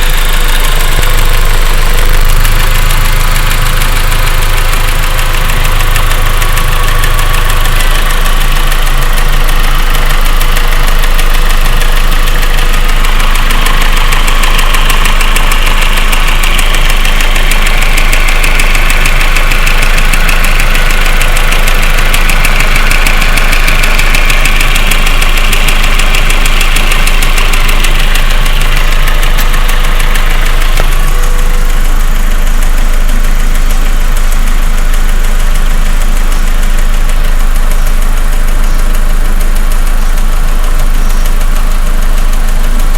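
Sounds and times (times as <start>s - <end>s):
car engine idling: 0.0s - 42.9s
fast even engine ticking: 0.0s - 42.9s.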